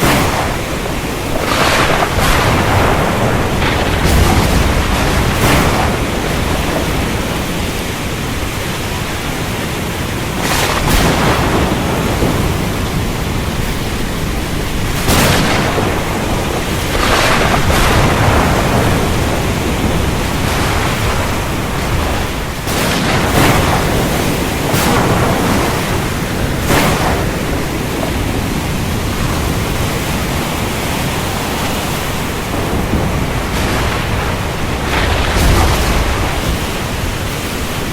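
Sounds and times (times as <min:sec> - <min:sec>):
heavy rain hissing: 0:00.0 - 0:37.9
thunder cracking: 0:00.0 - 0:37.9.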